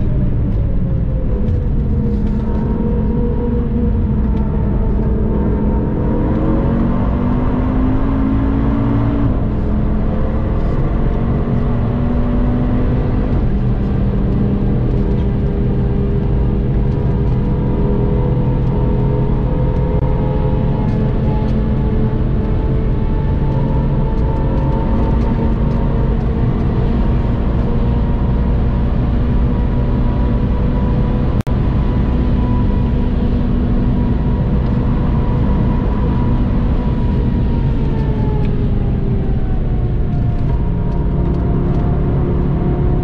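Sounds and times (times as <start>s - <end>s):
car engine revving: 0.0s - 43.0s
road and tyre rumble: 0.0s - 43.0s.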